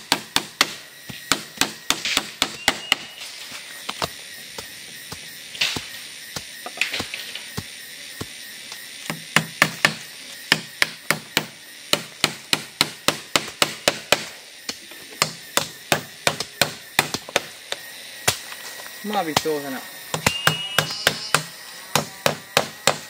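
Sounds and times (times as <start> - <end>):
chopping strikes: 0.0 - 8.4, 9.0 - 17.5, 19.1 - 23.0.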